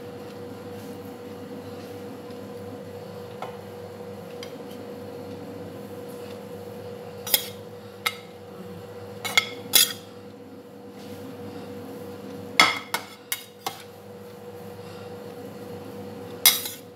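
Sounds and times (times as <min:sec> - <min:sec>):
steady hum: 0:00.0 - 0:16.9.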